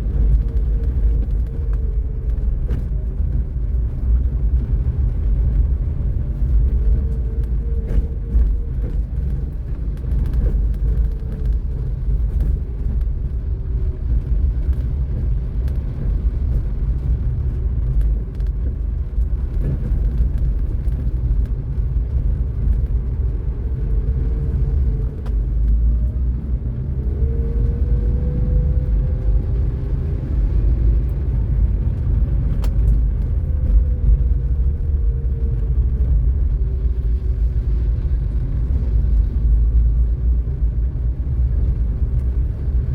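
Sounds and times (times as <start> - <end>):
road noise rumble: 0.0 - 42.9.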